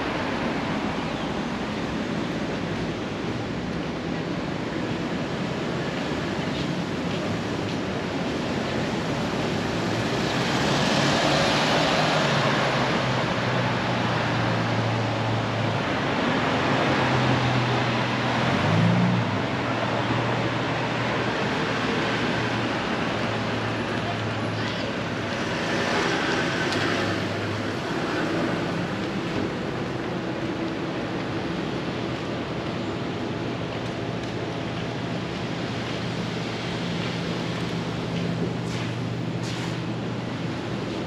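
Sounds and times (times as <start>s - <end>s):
passing vehicles and tyres: 0.0s - 41.0s.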